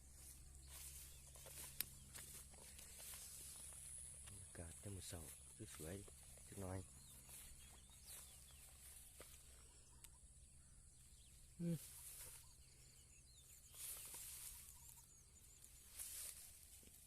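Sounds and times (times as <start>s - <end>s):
high insect-like whine: 0.0s - 17.0s.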